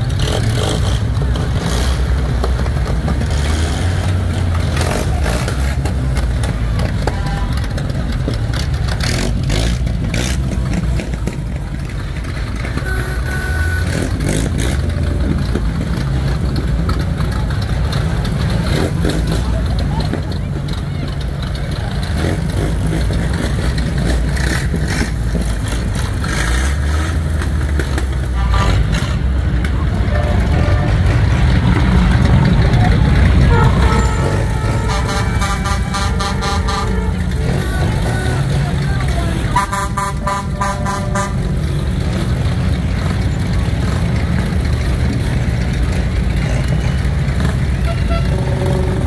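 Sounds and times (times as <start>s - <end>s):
vehicle engine rumbling: 0.0s - 49.0s.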